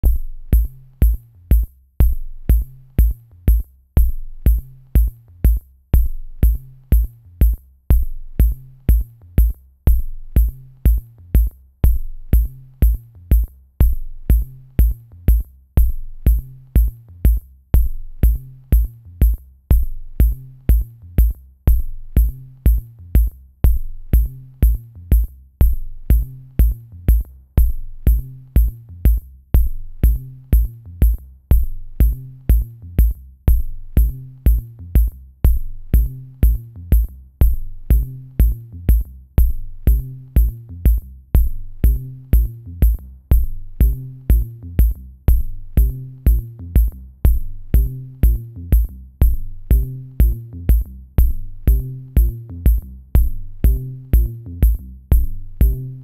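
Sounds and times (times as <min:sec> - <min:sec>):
bass line: 0:00.0 - 0:56.0
deep kick drum: 0:00.0 - 0:56.0.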